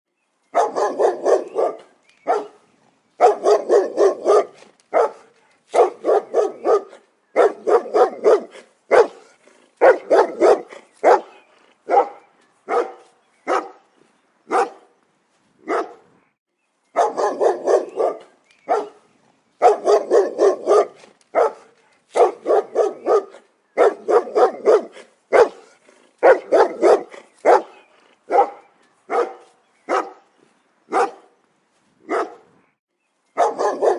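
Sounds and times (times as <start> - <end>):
dog barking: 0.6 - 2.6, 3.2 - 13.8, 14.5 - 14.9, 15.6 - 16.0, 17.0 - 19.0, 19.6 - 30.3, 30.9 - 31.4, 32.1 - 32.5, 33.4 - 33.9.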